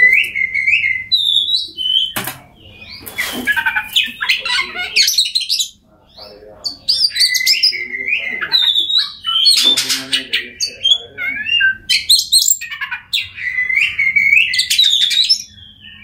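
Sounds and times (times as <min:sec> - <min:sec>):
bird singing varied song: 0:00.0 - 0:16.0.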